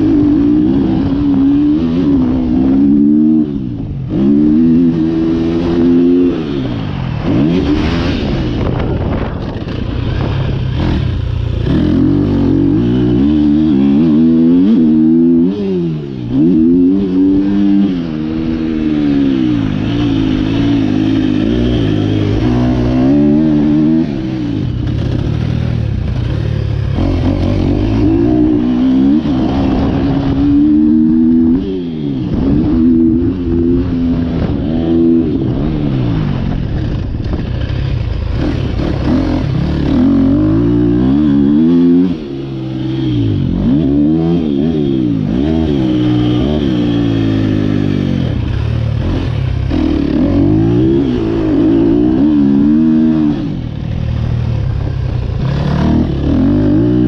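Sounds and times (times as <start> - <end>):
motorcycle engine revving hard: 0.0 - 57.0.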